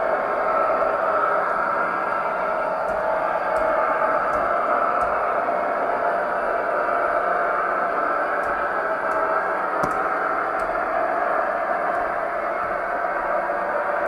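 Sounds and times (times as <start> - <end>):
model train motor humming: 0.0 - 14.0.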